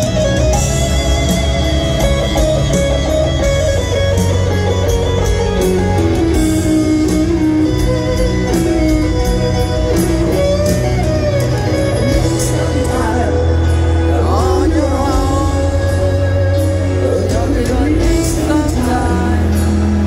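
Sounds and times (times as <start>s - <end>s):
electric guitar solo: 0.0s - 20.0s
live rock band: 0.0s - 20.0s.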